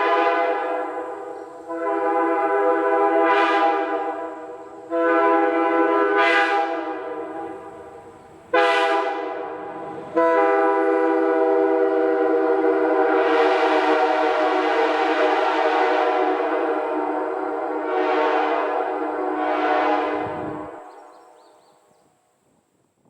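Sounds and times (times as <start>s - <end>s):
locomotive air horn chord: 0.0s - 21.3s.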